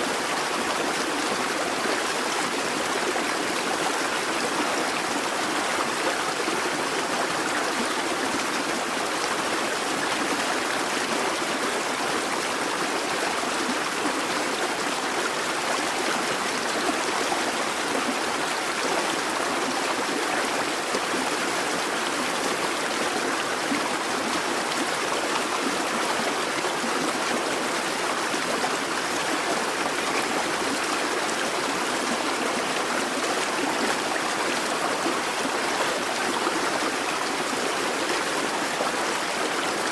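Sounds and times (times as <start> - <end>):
brook burbling over stones: 0.0 - 39.9.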